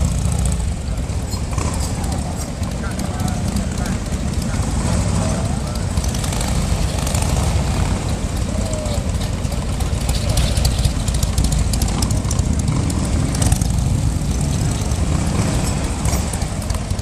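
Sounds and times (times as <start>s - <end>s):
motorcycle riding past: 1.4s - 17.0s.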